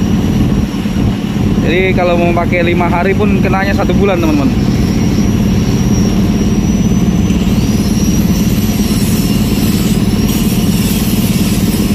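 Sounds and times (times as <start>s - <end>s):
engine running steadily: 0.0s - 11.9s.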